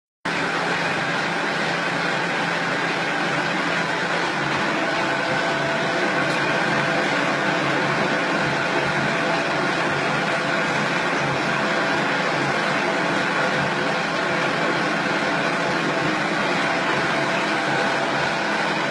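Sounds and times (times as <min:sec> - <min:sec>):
plastic processing machine humming: 0:00.3 - 0:18.9.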